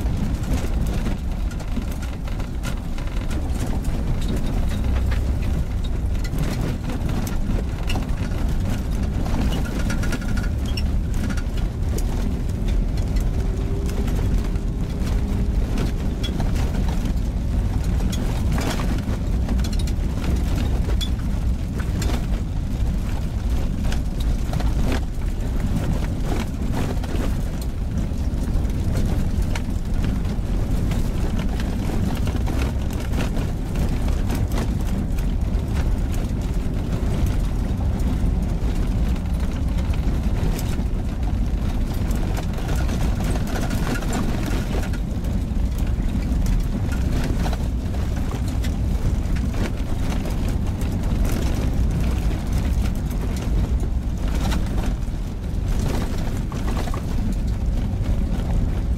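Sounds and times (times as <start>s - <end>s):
car engine and tyres rumbling: 0.0s - 58.9s
gravel clicks and knocks: 0.0s - 58.9s.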